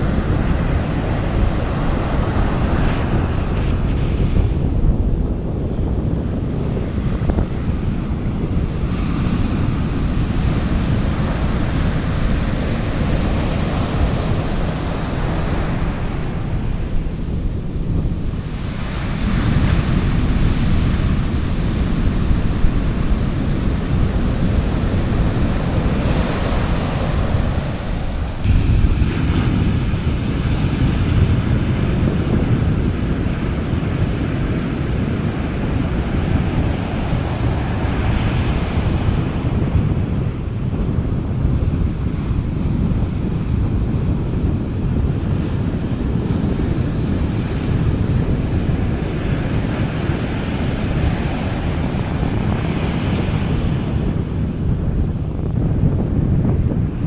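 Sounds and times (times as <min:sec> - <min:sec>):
sea waves washing onto beach: 0:00.0 - 0:55.5
wind rumble on microphone: 0:00.0 - 0:57.0.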